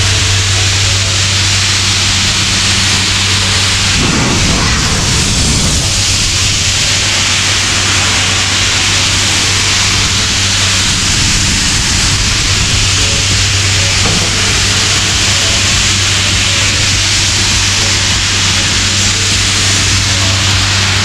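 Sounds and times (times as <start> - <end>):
air blower hissing: 0.0 - 21.0
air compressor droning: 0.0 - 21.0.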